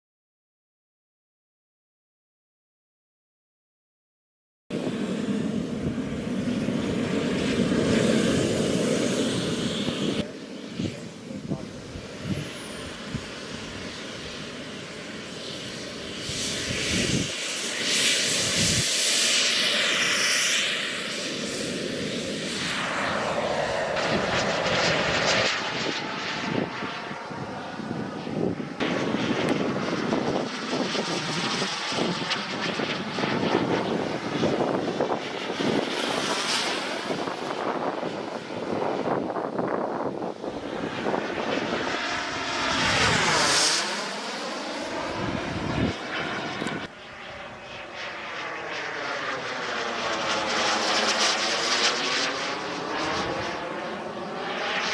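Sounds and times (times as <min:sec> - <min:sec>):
model jet engine whine: 0:04.7 - 0:54.9.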